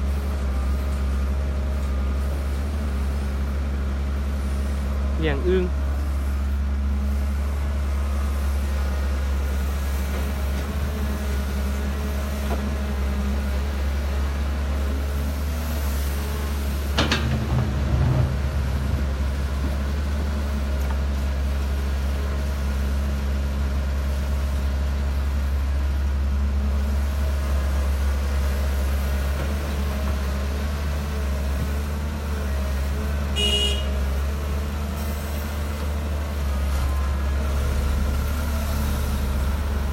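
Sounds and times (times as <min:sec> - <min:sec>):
truck engine droning: 0:04.3 - 0:39.9.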